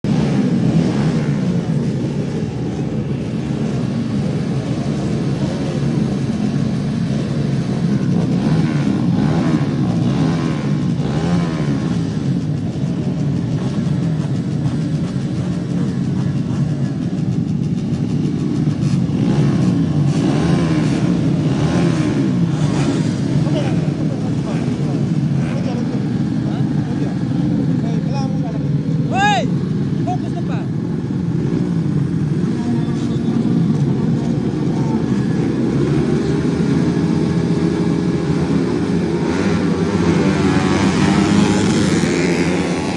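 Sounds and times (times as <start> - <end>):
motorcycle engines revving high: 0.0 - 42.9.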